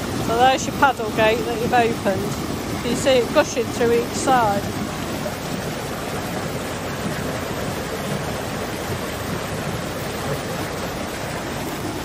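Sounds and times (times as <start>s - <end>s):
water rushing into lock: 0.0s - 12.0s.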